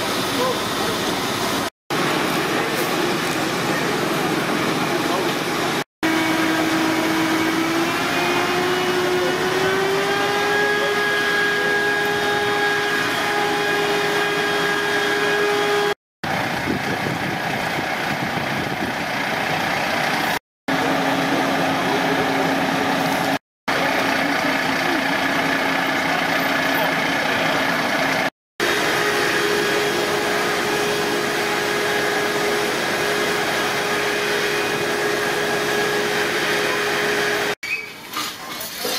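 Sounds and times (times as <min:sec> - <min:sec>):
fire engine idling: 0:00.0 - 0:37.6.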